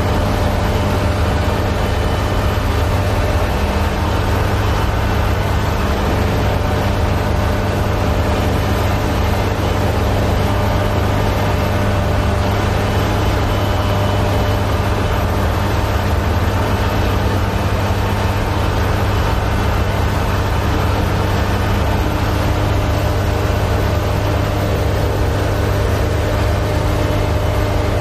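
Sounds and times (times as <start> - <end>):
harvester engine droning: 0.0 - 28.0.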